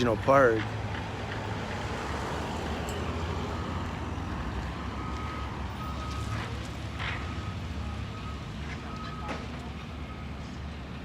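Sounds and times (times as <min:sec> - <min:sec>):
low rumble of vehicles: 0:00.0 - 0:11.0
vehicles swishing past: 0:00.0 - 0:11.0.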